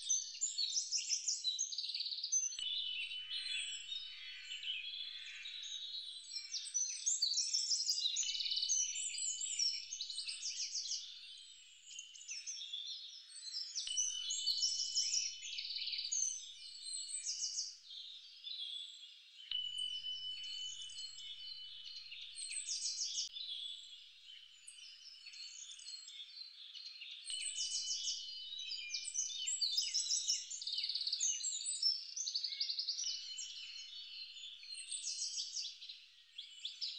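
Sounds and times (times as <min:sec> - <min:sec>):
birds chirping and trilling: 0:00.0 - 0:36.9.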